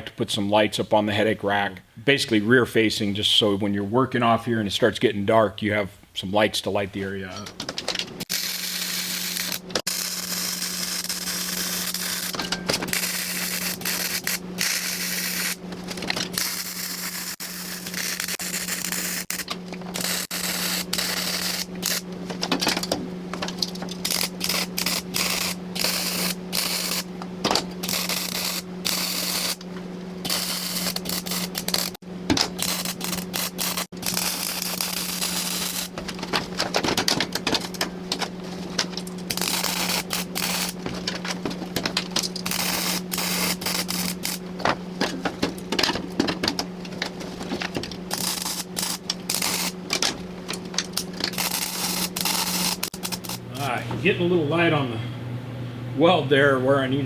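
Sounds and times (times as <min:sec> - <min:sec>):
low electrical hum: 0:00.0 - 0:57.0
welder arc crackling: 0:08.2 - 0:53.9.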